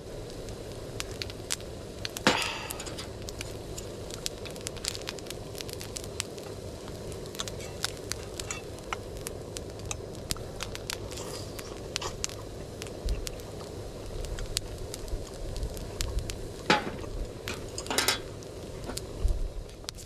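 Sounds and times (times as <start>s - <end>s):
low rush of flame: 0.0s - 20.0s
campfire pops and snaps: 0.1s - 20.0s.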